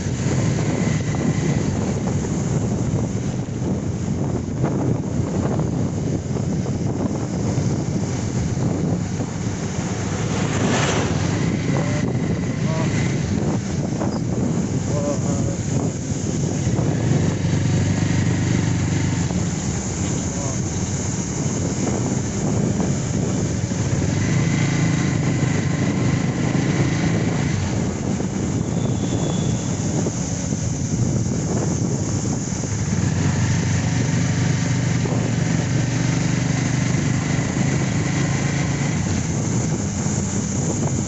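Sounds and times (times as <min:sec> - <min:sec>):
motorcycle engine running: 0:00.0 - 0:41.0
wind rushing over microphone: 0:00.0 - 0:41.0.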